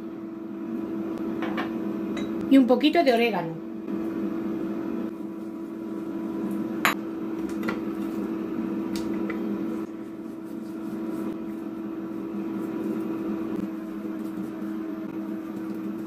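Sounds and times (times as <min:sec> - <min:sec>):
air fryer fan humming: 0:00.0 - 0:16.0.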